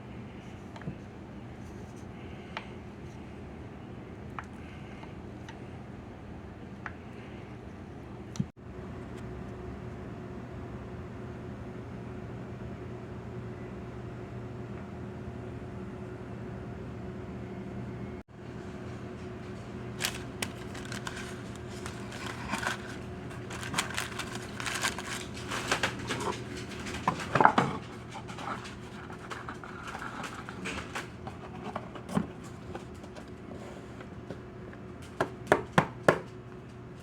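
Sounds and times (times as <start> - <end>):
steady low hum: 0.0 - 35.2.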